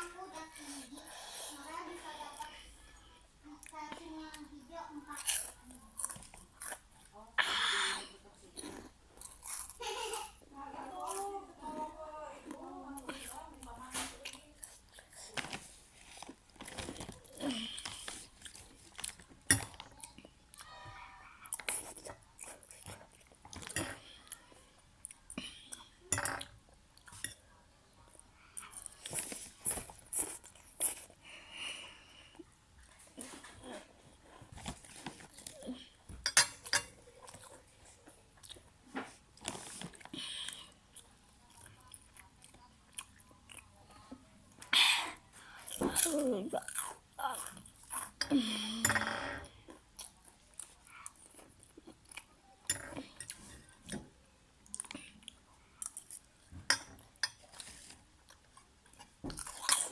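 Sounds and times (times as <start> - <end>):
chewing and crunching food: 3.5 - 7.4, 8.3 - 10.2, 12.4 - 20.7, 21.4 - 48.2, 49.4 - 59.9.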